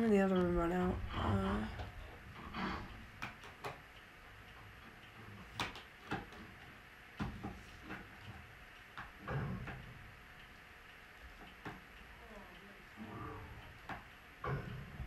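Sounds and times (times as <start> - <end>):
faint clicks and knocks: 0.0 - 15.0
low background hiss: 0.0 - 15.0.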